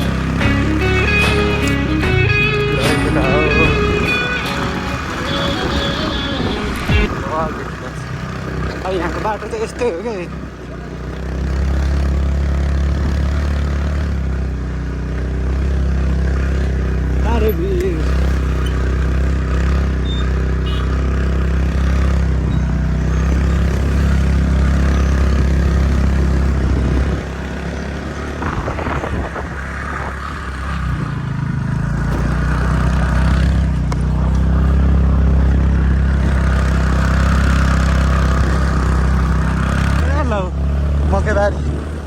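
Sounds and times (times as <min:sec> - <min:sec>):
scooter engine running: 0:00.0 - 0:42.0.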